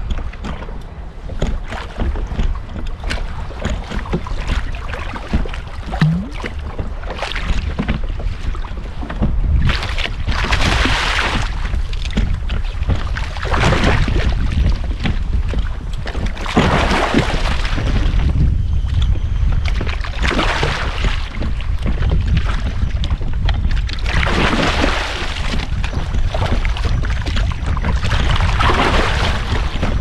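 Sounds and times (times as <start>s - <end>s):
water sloshing against kayak hull: 0.0s - 30.0s
wind buffeting microphone: 0.0s - 30.0s
rushes of splashing water: 1.6s - 18.5s, 19.5s - 30.0s.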